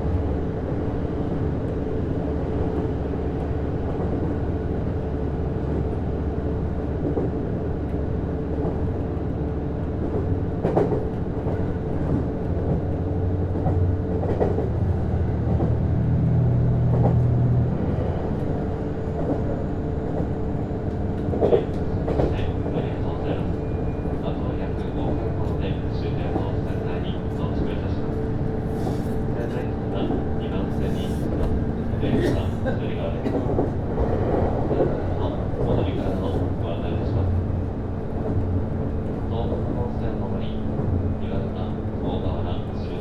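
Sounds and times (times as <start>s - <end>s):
train drive hum: 0.0s - 43.0s.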